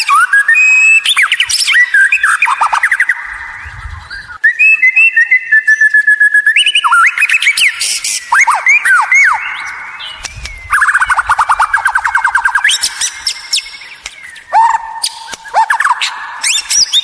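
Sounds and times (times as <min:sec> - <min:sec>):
songbird whistling song: 0:00.0 - 0:17.0.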